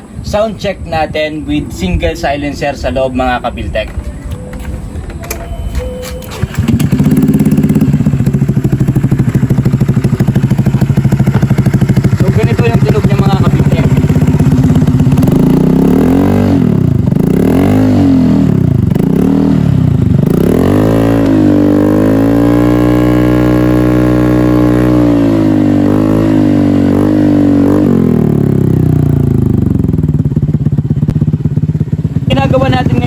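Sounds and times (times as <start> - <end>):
motorcycle engine revving: 0.9 - 33.0.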